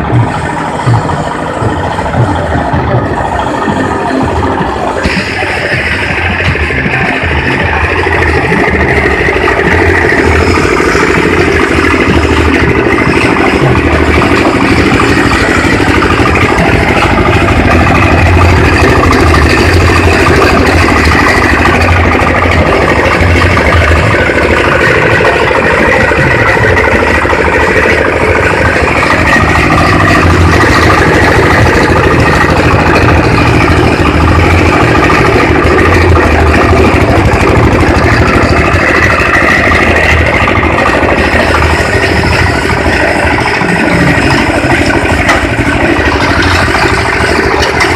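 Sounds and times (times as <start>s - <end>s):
feed chopper engine drone: 0.0s - 47.9s.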